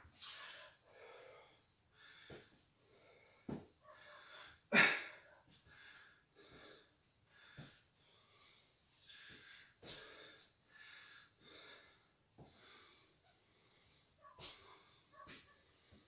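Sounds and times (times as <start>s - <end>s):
man breathing heavily: 0.1s - 16.0s.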